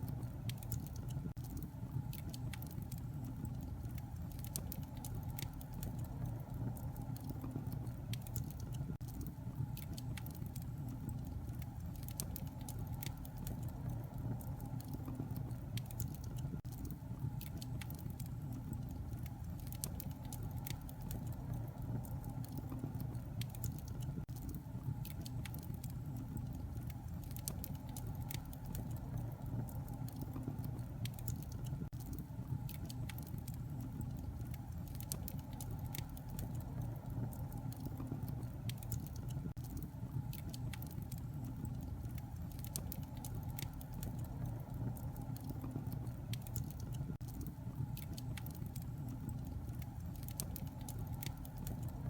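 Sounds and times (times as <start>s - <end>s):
fire popping and snapping: 0.0s - 52.0s
fire rumbling: 0.0s - 52.0s.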